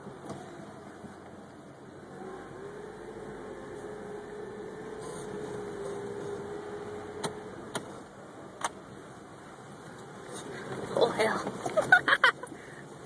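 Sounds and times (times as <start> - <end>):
vehicle rattling over bumps: 0.0 - 12.8
faint whine: 0.0 - 13.0
vehicle engine droning: 0.0 - 13.0.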